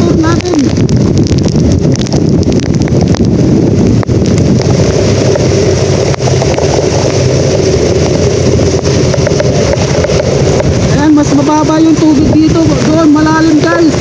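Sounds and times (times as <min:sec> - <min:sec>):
vehicle engine running: 0:00.0 - 0:14.0
wind noise on microphone: 0:00.0 - 0:14.0.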